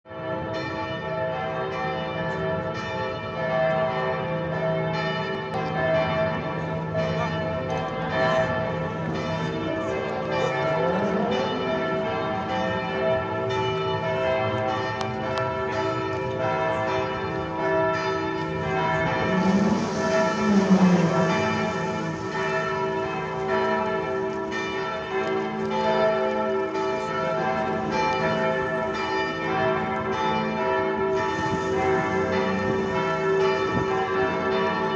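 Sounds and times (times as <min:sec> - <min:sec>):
church bells ringing: 0:00.1 - 0:34.9.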